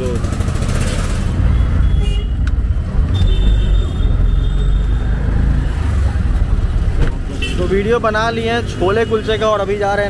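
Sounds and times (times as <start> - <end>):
auto-rickshaw engine and road rumble: 0.0 - 10.0.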